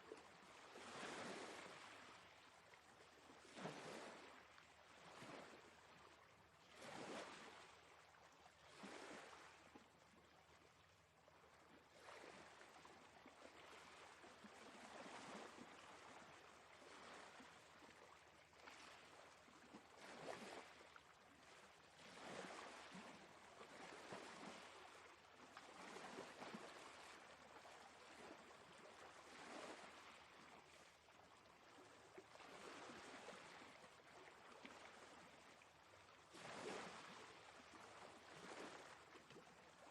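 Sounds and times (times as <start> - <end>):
faint sea waves washing in: 0.0 - 9.9, 11.6 - 39.9.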